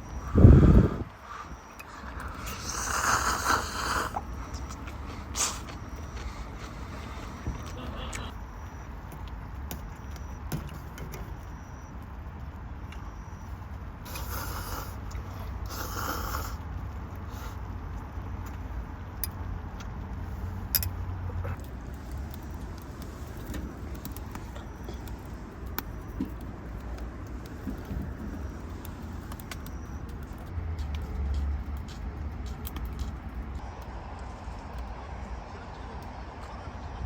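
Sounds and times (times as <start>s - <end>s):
campfire crackling and popping: 0.1s - 36.6s.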